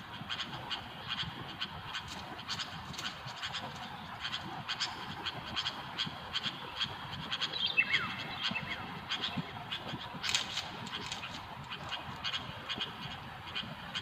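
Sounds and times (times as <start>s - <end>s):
bird harsh chattering calls: 0.1s - 14.0s.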